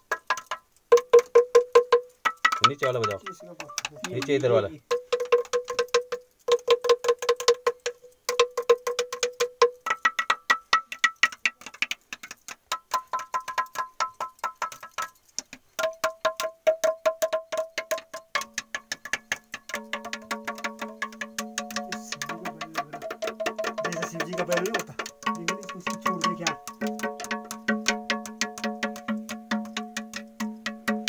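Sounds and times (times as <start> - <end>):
tapping on ringing stones: 0.0 - 31.0.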